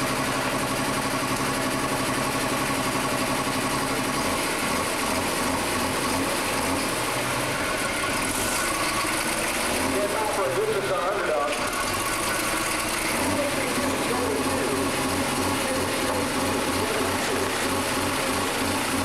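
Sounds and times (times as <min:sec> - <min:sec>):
diesel tractor engine idling and revving: 0:00.0 - 0:19.0.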